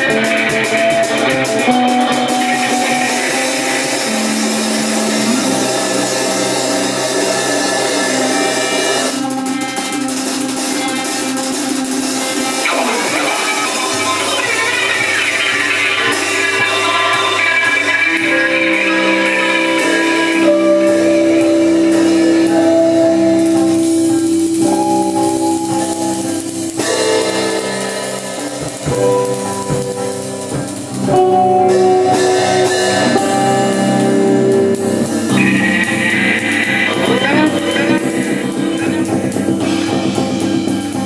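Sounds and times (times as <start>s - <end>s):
drum kit: 0.0s - 41.0s
electric guitars sustained tones: 0.0s - 41.0s
electric violin: 0.0s - 41.0s.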